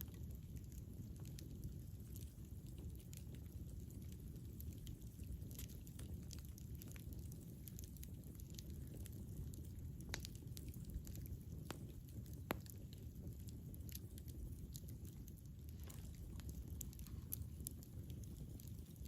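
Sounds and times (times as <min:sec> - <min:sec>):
burning wood crackling and popping: 0:00.0 - 0:19.0
campfire flames rushing: 0:00.0 - 0:19.0.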